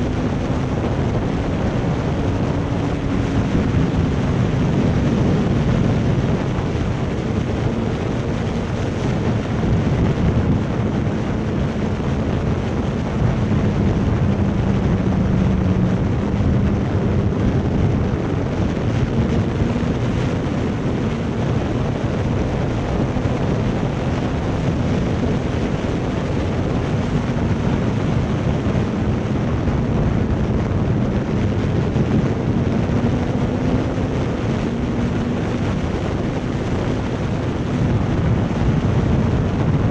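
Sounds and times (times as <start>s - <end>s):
motorcycle engine droning: 0.0s - 39.9s
wind rushing over microphone: 0.0s - 39.9s.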